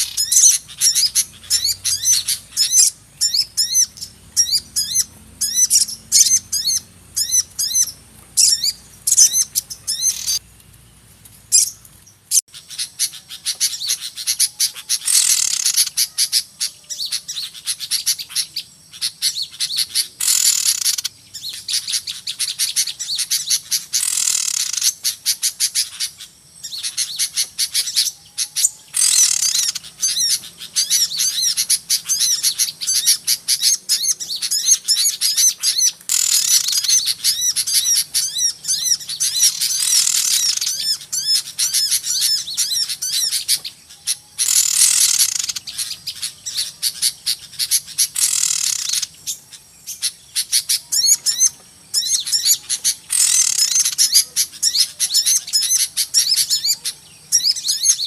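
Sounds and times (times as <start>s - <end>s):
harsh rasping bird call: 0.0s - 10.4s, 12.5s - 58.0s
small birds chirping and trilling: 0.0s - 58.0s.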